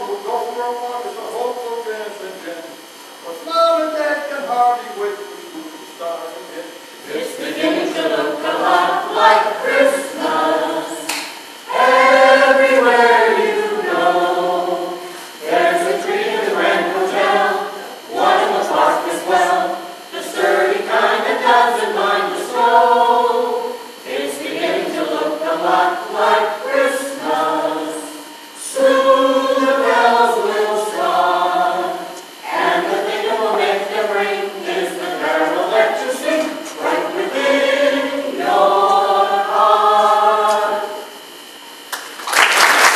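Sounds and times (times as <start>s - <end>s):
choir singing a cappella: 7.0s - 41.6s.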